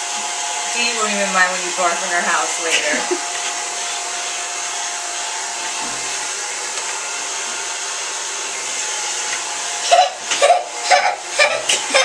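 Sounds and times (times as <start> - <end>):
hair dryer blowing air: 0.0 - 12.0.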